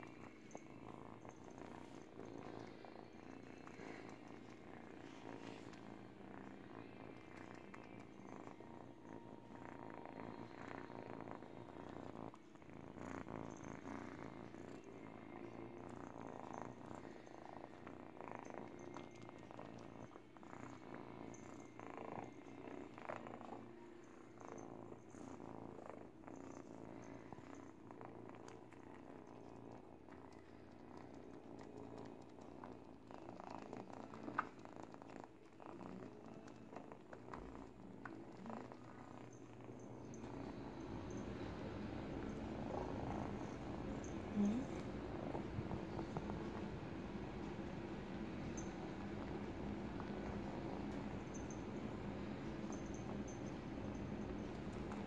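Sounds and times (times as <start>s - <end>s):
kitten purring: 0.0s - 55.0s.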